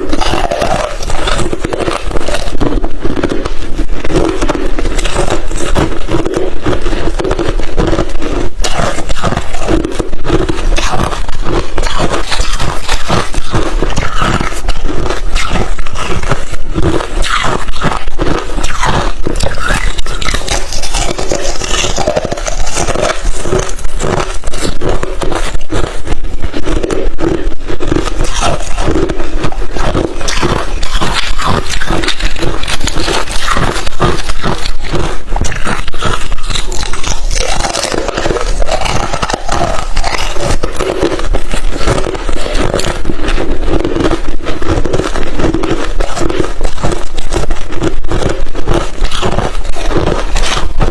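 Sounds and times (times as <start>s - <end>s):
chewing crushed ice: 0.0s - 50.9s.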